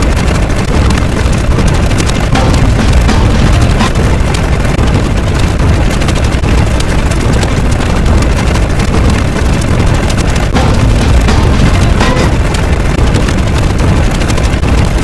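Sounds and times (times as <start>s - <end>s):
distorted rumbling noise: 0.0s - 15.0s.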